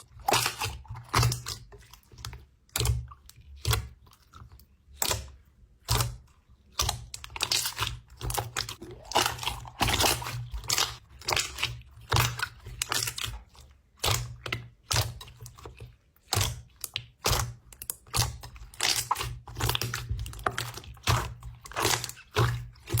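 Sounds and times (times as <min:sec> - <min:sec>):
slime squishing and crackling: 0:00.0 - 0:23.0.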